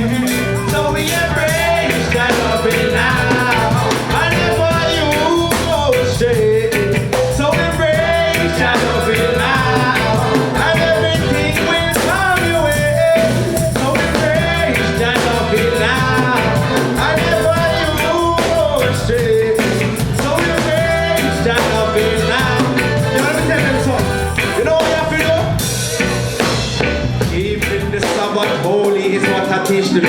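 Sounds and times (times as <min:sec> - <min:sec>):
person singing: 0:00.0 - 0:26.5, 0:27.1 - 0:30.0
live reggae band playing: 0:00.0 - 0:30.0.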